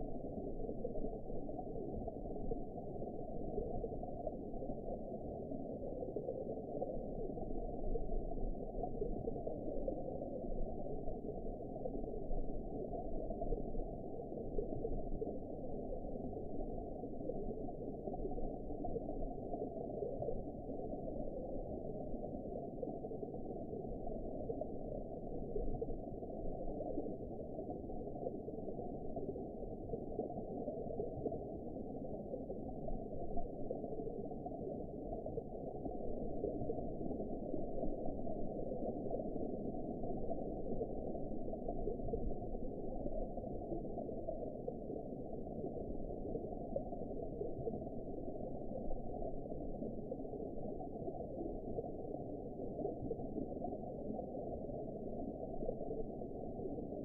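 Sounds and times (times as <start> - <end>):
underwater rush of water: 0.0 - 57.0.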